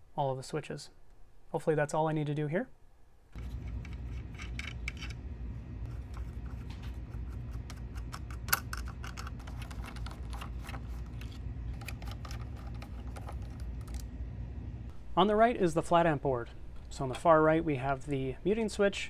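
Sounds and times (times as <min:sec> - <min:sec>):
steady low hum: 0:02.7 - 0:19.0.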